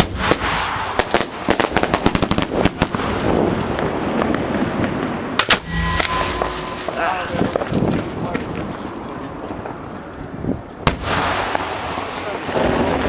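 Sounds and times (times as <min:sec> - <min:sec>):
fireworks bangs and crackling: 0:00.0 - 0:05.7, 0:06.9 - 0:13.0.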